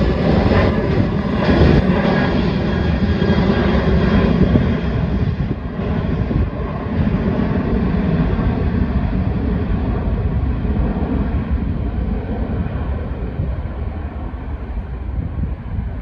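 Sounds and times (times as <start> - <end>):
jet engines roaring on takeoff: 0.0 - 16.0.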